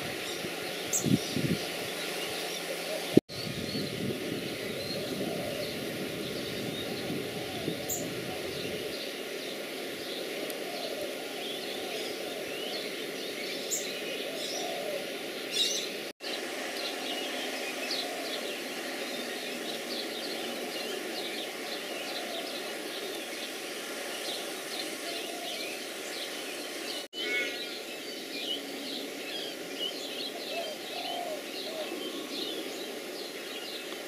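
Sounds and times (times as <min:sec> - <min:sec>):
small birds chirping and twittering: 0:00.0 - 0:34.0.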